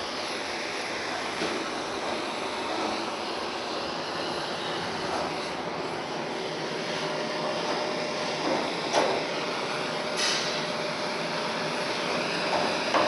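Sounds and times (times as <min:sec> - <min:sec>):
gas torch roaring: 0:00.0 - 0:13.0.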